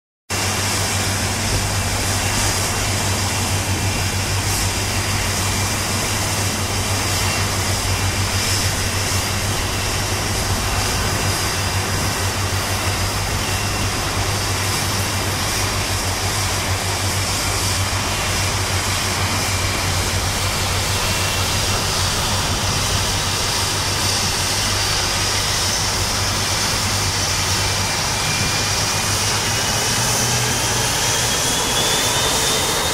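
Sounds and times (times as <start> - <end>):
jet engines rushing: 0.4 - 32.9
rising engine whine: 0.4 - 32.9.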